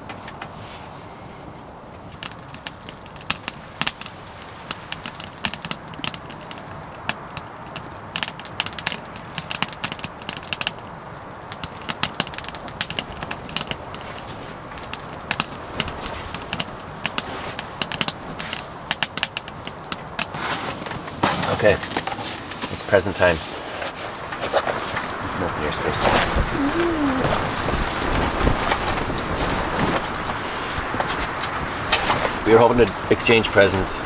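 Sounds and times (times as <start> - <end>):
steady low hiss: 0.0 - 34.0
wood fire crackling: 1.7 - 34.0.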